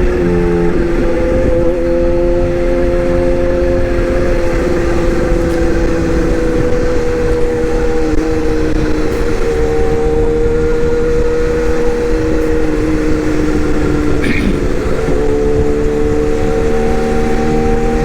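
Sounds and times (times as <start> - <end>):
machine droning hum: 0.0 - 18.0.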